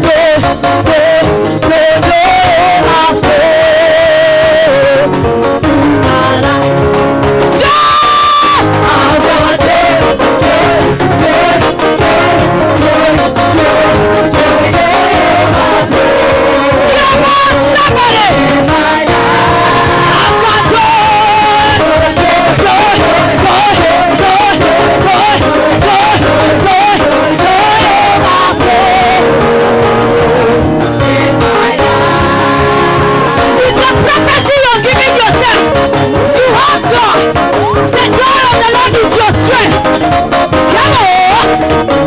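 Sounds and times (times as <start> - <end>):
gospel singing over live band: 0.0 - 42.0.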